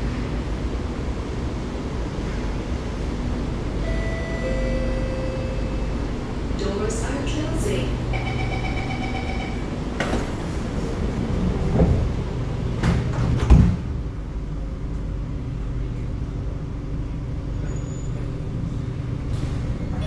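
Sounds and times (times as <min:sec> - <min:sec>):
low train equipment hum: 0:00.0 - 0:20.0.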